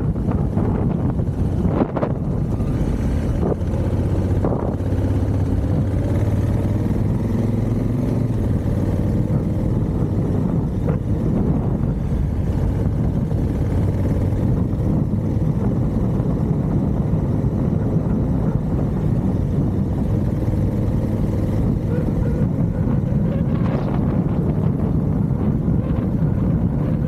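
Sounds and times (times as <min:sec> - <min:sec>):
motorcycle engine rumble: 0:00.0 - 0:27.0.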